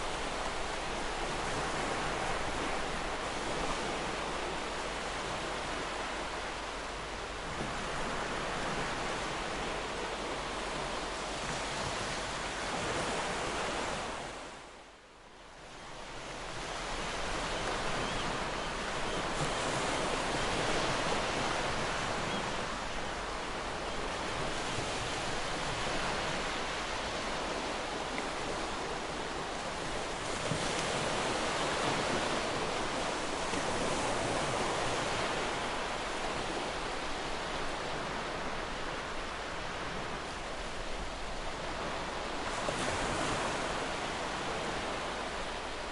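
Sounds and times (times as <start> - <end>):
ocean waves breaking on beach: 0.0 - 14.9, 15.5 - 45.9.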